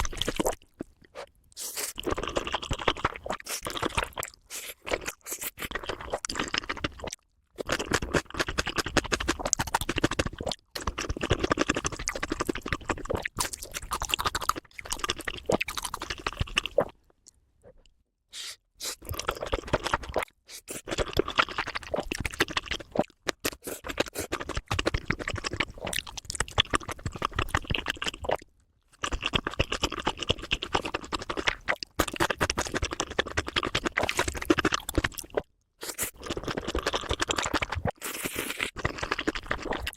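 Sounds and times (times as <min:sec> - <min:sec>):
close chewing with crunches: 0:00.0 - 0:17.0, 0:17.7 - 0:39.9.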